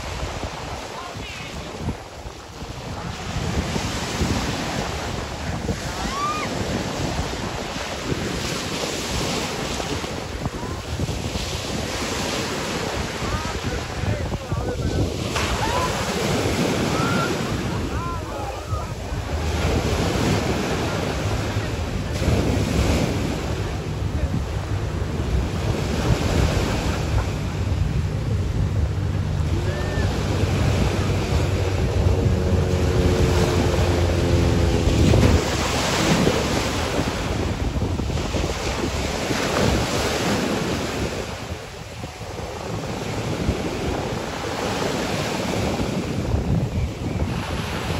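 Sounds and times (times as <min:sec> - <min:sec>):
ocean surf breaking: 0:00.0 - 0:47.9
wind on microphone: 0:00.0 - 0:47.9.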